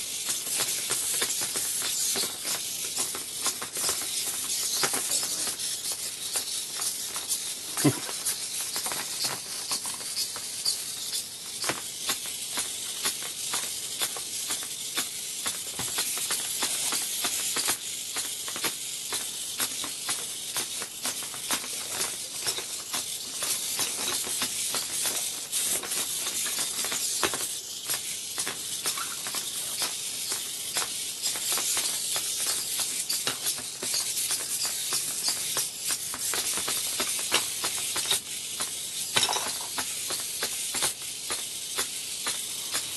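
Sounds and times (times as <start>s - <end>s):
steady high hiss: 0.0s - 42.9s.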